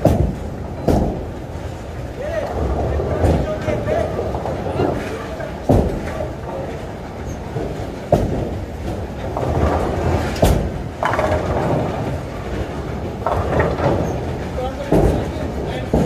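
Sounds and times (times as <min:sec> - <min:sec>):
bowling balls rolling: 0:00.0 - 0:16.0
bowling pins crashing: 0:00.0 - 0:16.0.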